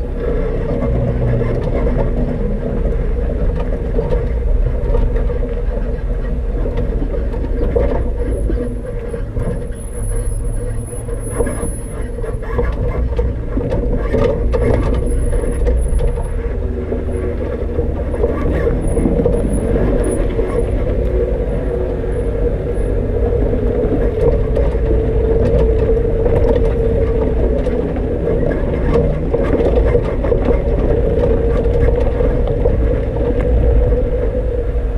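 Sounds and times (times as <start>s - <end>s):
knocks and rattles over rough ground: 0.0s - 34.9s
off-road vehicle engine running: 0.0s - 34.9s.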